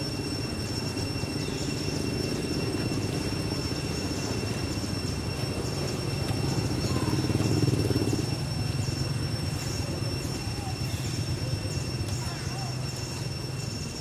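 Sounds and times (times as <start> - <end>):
thin high-pitched whine: 0.0 - 14.0.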